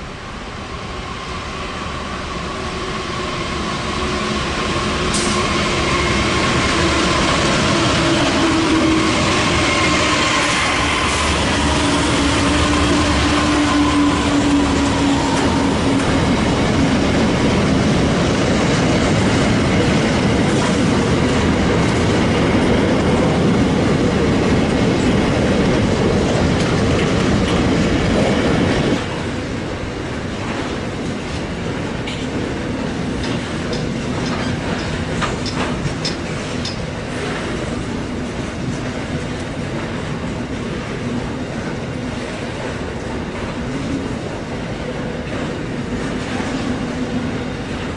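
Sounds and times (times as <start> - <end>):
train wheels rumbling and clacking: 0.6 - 47.9.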